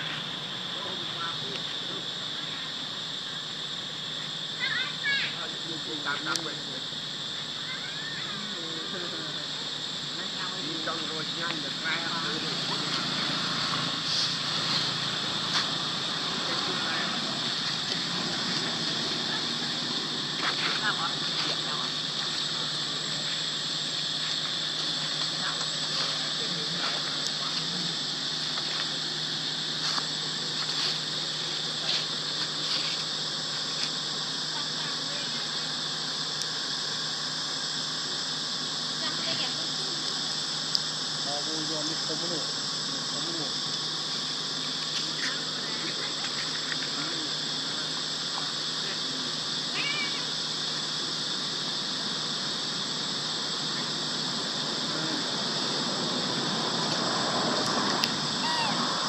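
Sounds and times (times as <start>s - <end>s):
insects droning in trees: 0.0s - 59.0s
steady high-pitched hiss: 0.0s - 59.0s.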